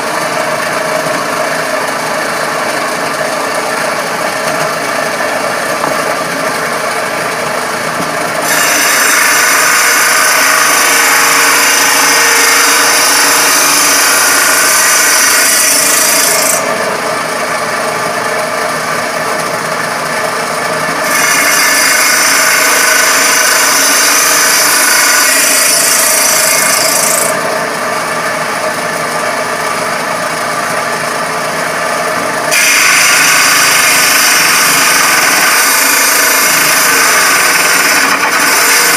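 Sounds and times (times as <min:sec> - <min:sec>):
saw cutting board: 0:00.0 - 0:38.9
table saw running: 0:00.0 - 0:38.9.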